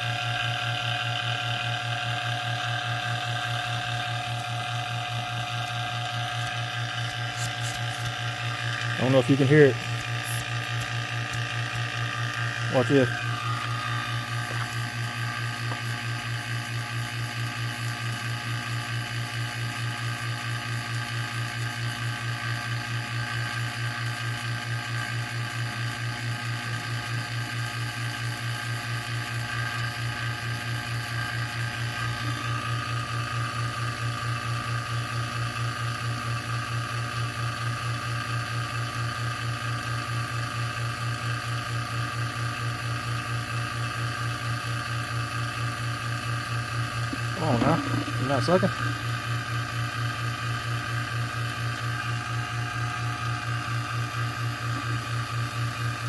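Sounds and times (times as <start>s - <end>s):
vacuum pump humming with pulse: 0.0s - 56.0s.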